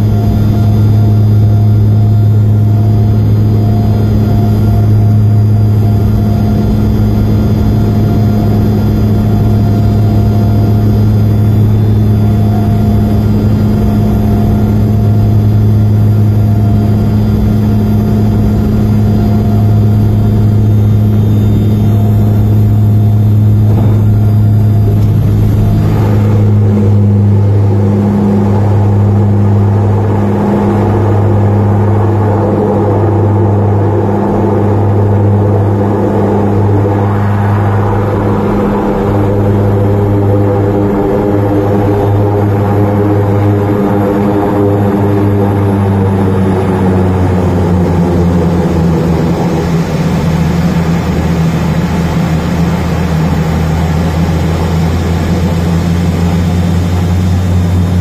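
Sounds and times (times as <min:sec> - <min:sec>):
airliner engines droning: 0:00.0 - 0:58.0
rushing air noise: 0:00.0 - 0:58.0.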